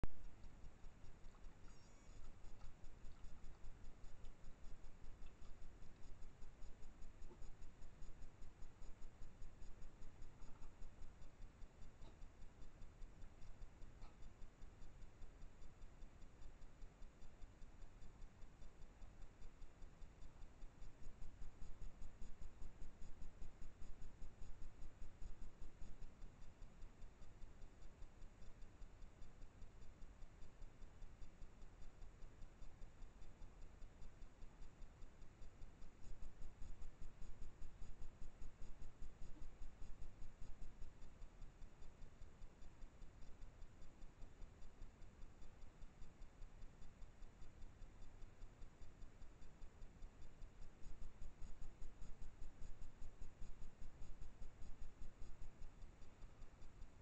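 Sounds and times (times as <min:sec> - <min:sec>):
rapid ticking: 0:00.2 - 0:57.0.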